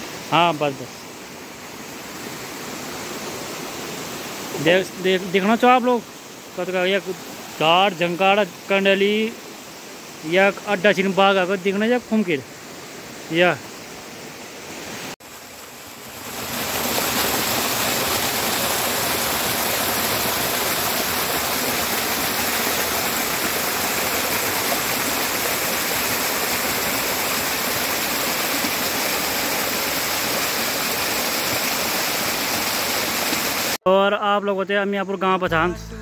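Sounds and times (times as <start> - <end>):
stream cascading over rocks: 0.0 - 33.8.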